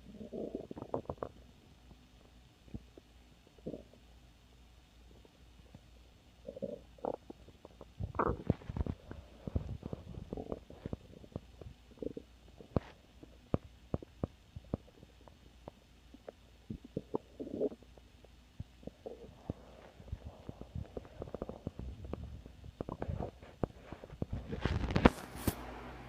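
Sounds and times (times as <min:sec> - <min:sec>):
stomach growling and gurgling: 0:00.0 - 0:01.6, 0:02.7 - 0:04.0, 0:06.4 - 0:25.1.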